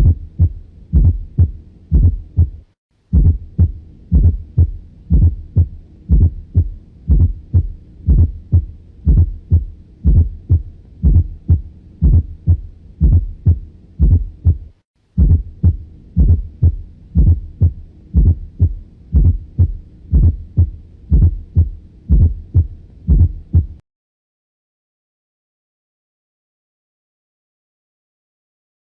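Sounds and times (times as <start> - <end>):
heartbeat through stethoscope: 0.0 - 23.8.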